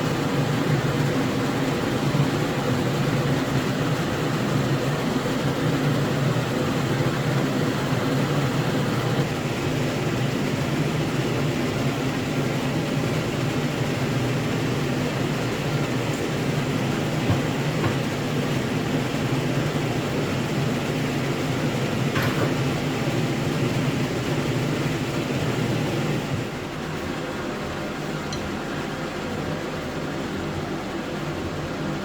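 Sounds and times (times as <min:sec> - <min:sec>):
machine humming and hissing: 0:00.0 - 0:32.0.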